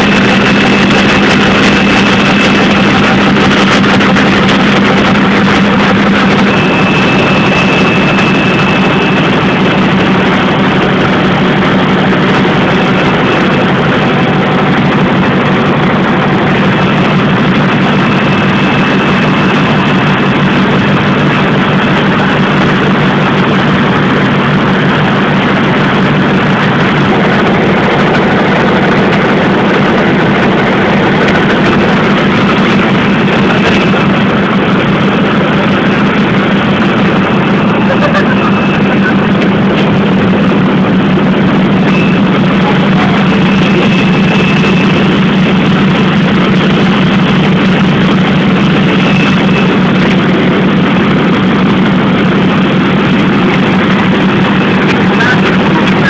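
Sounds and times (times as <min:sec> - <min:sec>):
low hum: 0:00.0 - 0:56.0
printing press running: 0:00.0 - 0:56.0.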